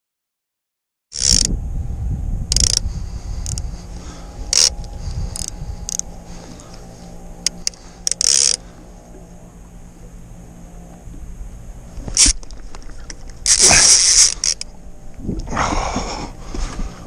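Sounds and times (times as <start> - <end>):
fishing reel gears whirring: 1.1 - 1.8, 2.4 - 17.0.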